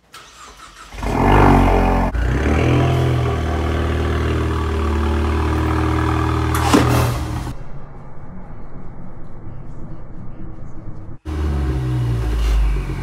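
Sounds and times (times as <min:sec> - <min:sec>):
car engine starting and running: 0:00.0 - 0:13.0.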